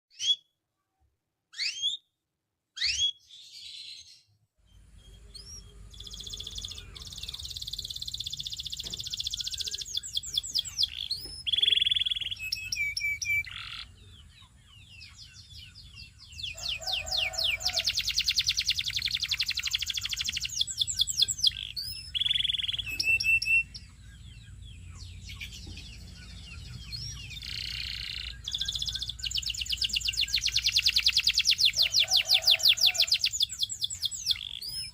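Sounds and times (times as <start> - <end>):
canary singing trills: 1.5 - 2.1, 2.8 - 34.9.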